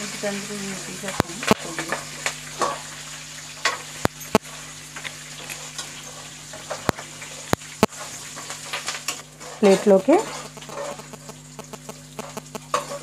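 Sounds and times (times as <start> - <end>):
oil sizzling in a metal pan: 0.0 - 13.0.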